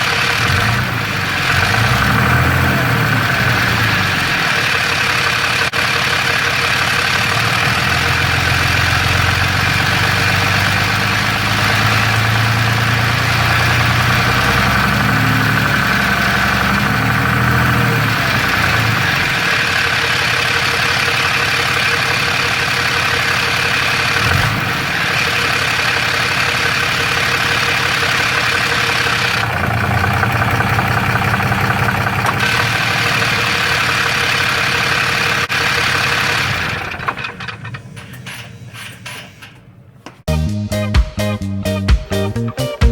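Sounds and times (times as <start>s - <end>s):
diesel engine idling: 0.0s - 40.0s
engine rattle: 0.0s - 40.0s.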